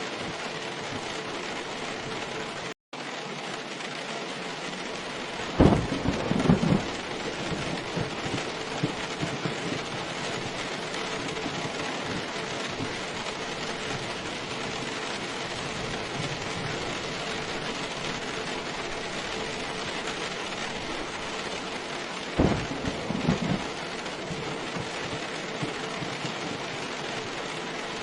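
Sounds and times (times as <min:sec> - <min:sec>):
thunder clap and rumble: 0:00.0 - 0:02.7, 0:04.6 - 0:28.0
heavy rain: 0:00.0 - 0:28.0.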